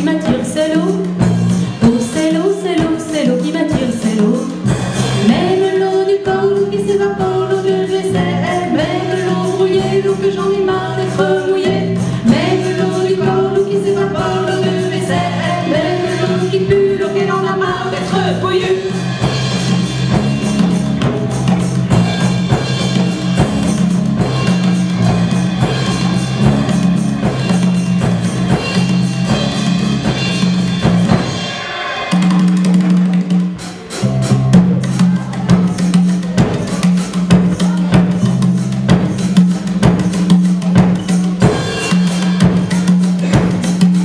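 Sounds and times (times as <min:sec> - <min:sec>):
bass line: 0:00.0 - 0:44.0
drum kit beat: 0:00.0 - 0:44.0.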